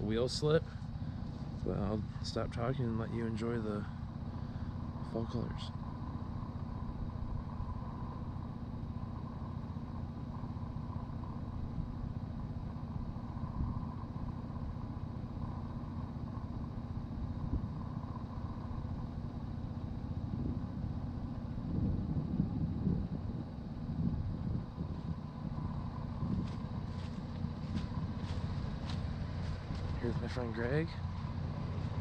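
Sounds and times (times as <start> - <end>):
pickup engine idling: 0.0 - 32.0.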